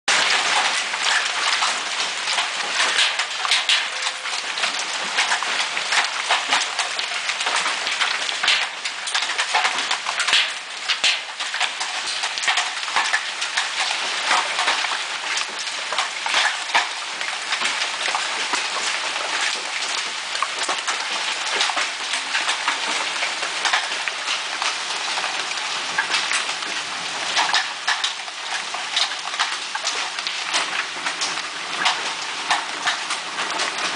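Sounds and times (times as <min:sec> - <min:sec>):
hailstones pelting: 0:00.1 - 0:33.9.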